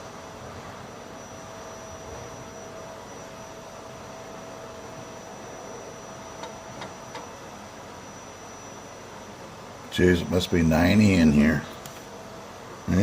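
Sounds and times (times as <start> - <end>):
faint high steady tone: 0.0 - 13.0
room hiss: 0.0 - 13.0.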